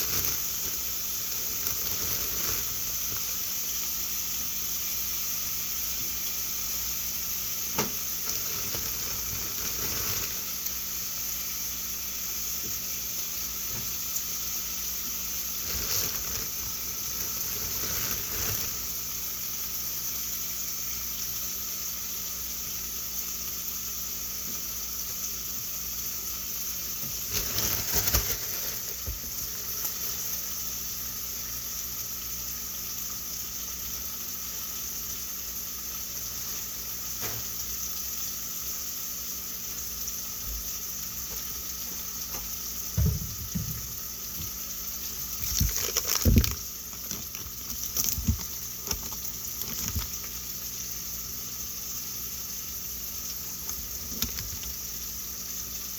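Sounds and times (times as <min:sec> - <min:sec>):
food sizzling in a frying pan: 0:00.0 - 0:55.9.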